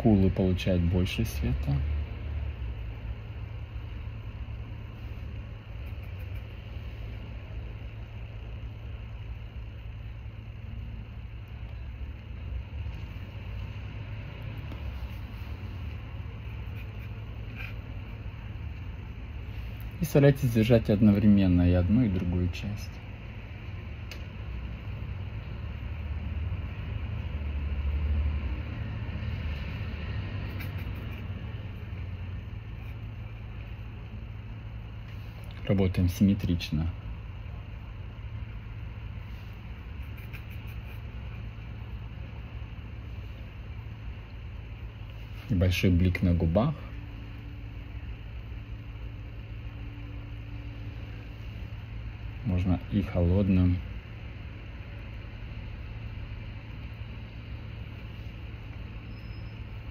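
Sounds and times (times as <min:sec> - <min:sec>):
low room hum with hiss: 0:00.0 - 0:59.9.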